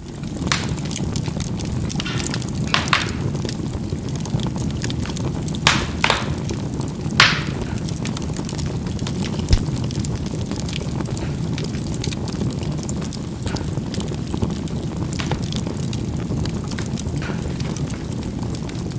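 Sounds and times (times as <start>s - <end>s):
charcoal crackles and pops: 0.0s - 18.9s
low rush of flame: 0.0s - 18.9s.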